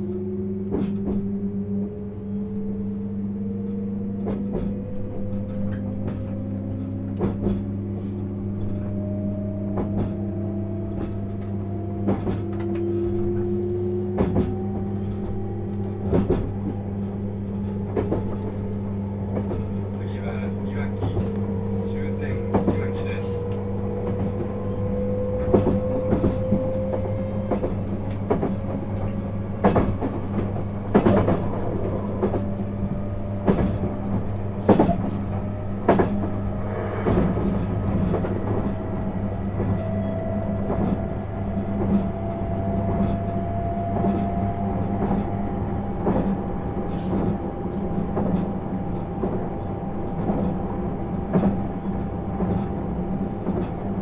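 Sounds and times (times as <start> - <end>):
train motor whine and hum: 0.0 - 54.0
wheels clacking over rail joints: 4.3 - 54.0.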